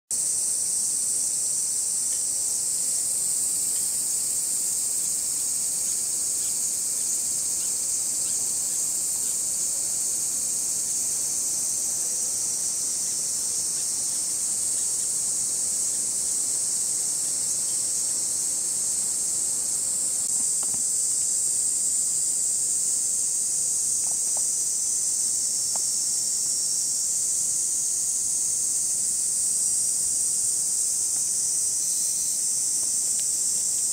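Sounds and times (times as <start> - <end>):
cicadas droning: 0.1 - 33.9.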